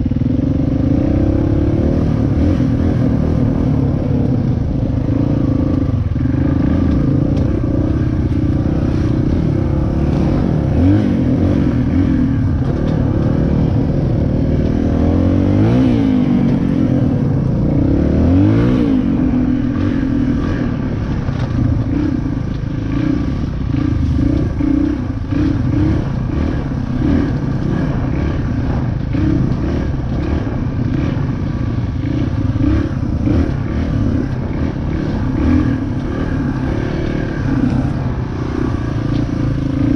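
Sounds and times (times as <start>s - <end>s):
bike rattling: 0.0s - 39.9s
dirt bike engine revving: 0.0s - 39.9s.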